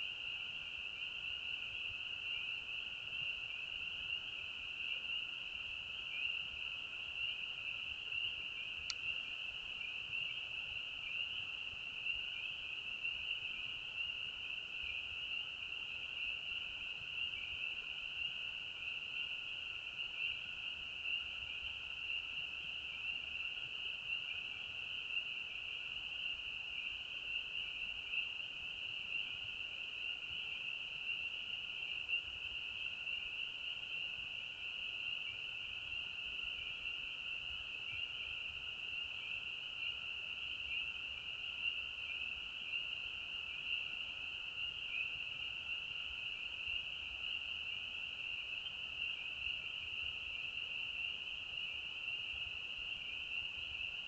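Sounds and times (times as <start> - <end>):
high-pitched frog chorus: 0.0 - 54.0.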